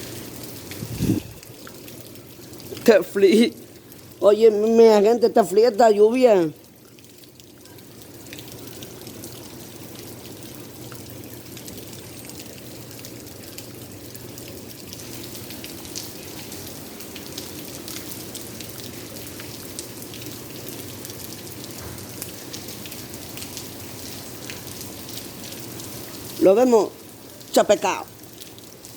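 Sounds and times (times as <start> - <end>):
rain falling steadily: 0.0 - 28.9.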